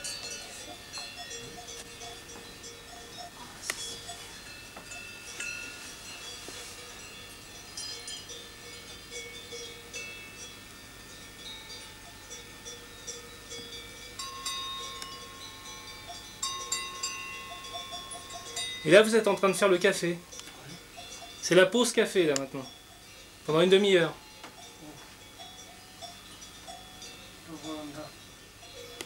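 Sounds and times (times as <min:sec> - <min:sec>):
cowbells clinking and ringing: 0:00.0 - 0:29.0.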